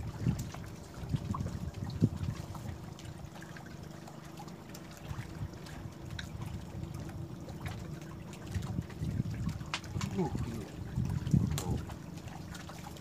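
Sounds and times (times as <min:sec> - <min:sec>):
faint steady hum: 0:00.0 - 0:13.0
water lapping against boat: 0:00.0 - 0:13.0.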